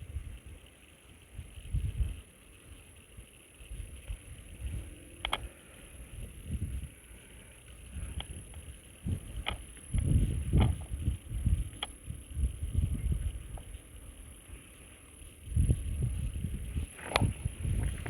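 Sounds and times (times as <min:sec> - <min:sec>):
wind gusting across microphone: 0:00.0 - 0:00.6, 0:01.3 - 0:02.3, 0:03.6 - 0:07.1, 0:07.7 - 0:14.6, 0:15.2 - 0:18.0.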